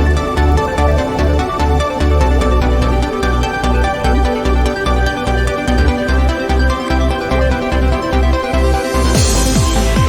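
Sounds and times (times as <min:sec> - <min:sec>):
electronic dance music: 0:00.0 - 0:10.0
sustained synth chords: 0:00.0 - 0:10.0
thumping bass beat: 0:00.0 - 0:10.0.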